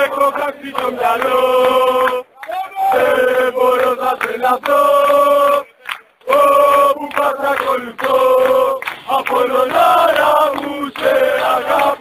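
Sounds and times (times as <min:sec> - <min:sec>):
crowd chanting in unison: 0:00.0 - 0:12.0.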